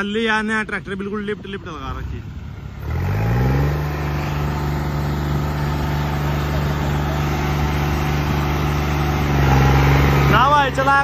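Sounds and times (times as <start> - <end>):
tractor diesel engine at high revs: 1.9 - 11.0.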